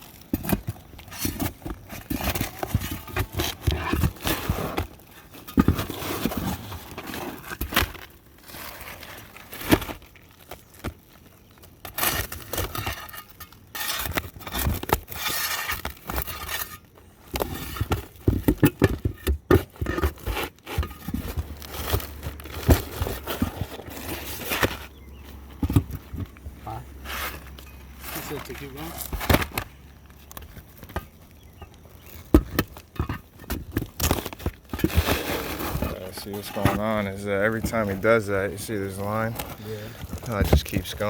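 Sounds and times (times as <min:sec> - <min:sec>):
roof shingles scraping and cracking: 0:00.0 - 0:41.0.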